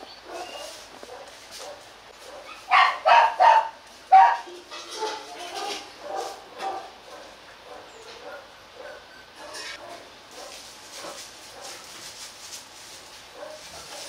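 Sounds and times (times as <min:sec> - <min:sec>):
dogs barking: 0:00.2 - 0:11.9, 0:13.3 - 0:14.0.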